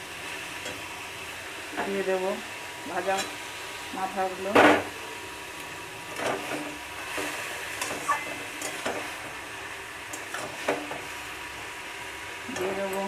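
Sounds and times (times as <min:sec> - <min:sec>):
low steady sizzle: 0:00.0 - 0:13.0.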